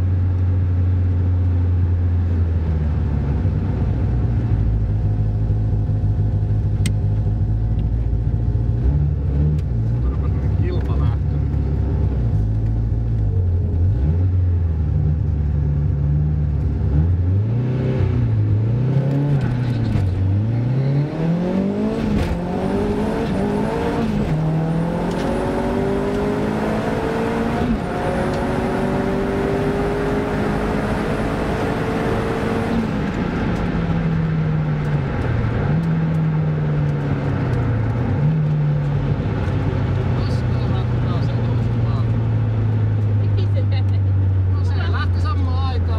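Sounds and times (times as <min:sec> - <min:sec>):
car engine accelerating: 0:00.0 - 0:45.9.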